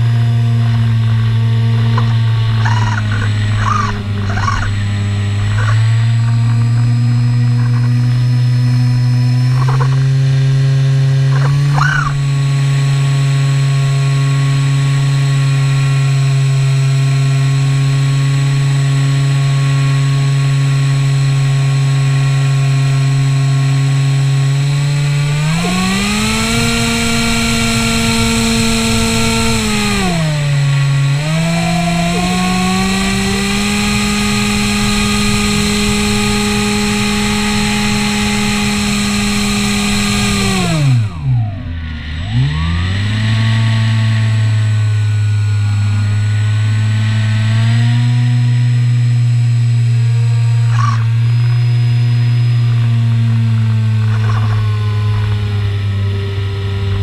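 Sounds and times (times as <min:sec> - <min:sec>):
model plane motor droning: 0:00.0 - 0:57.0.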